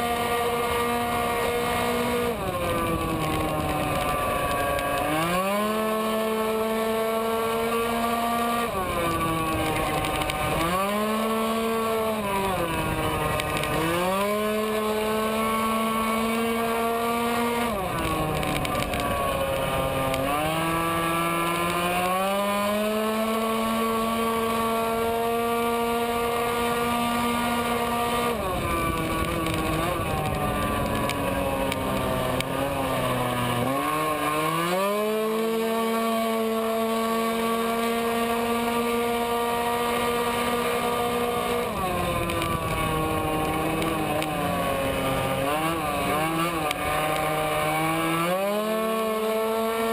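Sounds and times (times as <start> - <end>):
scooter engine at full throttle: 0.0 - 49.9
wind and road noise: 0.0 - 49.9.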